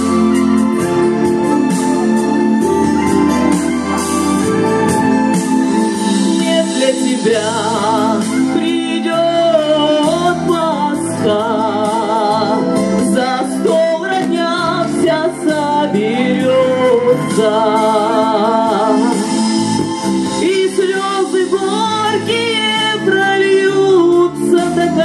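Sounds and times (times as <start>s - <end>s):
amplified keyboard accompaniment: 0.0s - 25.0s
woman singing with vibrato: 0.0s - 25.0s.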